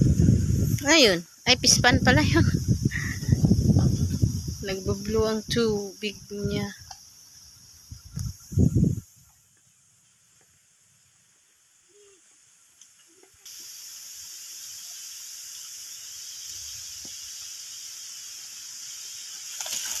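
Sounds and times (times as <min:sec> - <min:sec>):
faint outdoor ambience: 0:00.0 - 0:20.0
insects droning: 0:00.0 - 0:20.0.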